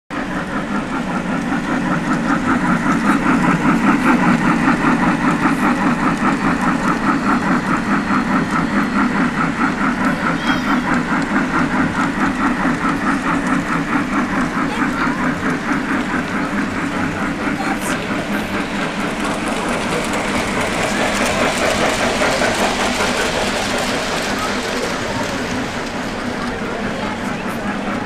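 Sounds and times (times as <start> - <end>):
model steam locomotive chuffing: 0.1 - 28.0
wheels rumbling on rails: 0.1 - 28.0.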